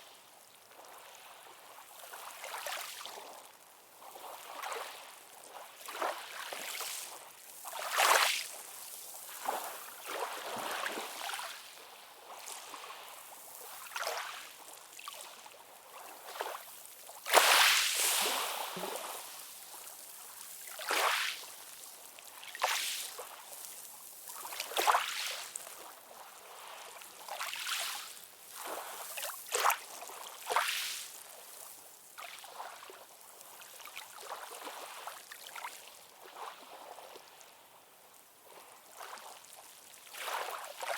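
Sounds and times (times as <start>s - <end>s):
waves lapping and splashing: 0.7s - 40.9s.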